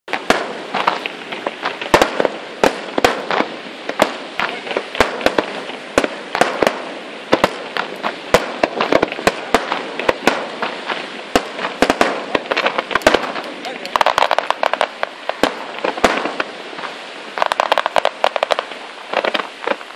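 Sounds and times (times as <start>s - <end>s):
firework bangs: 0.1s - 19.9s
firework crackle: 0.1s - 19.9s.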